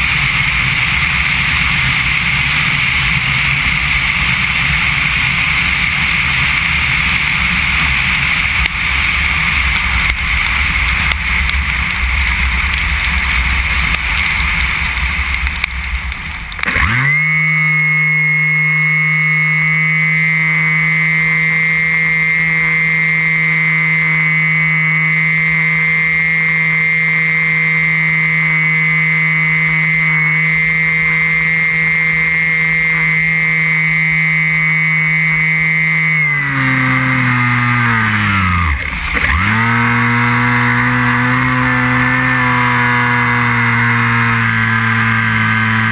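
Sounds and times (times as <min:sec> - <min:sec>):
electric motor and propeller whine: 0:00.0 - 0:45.9.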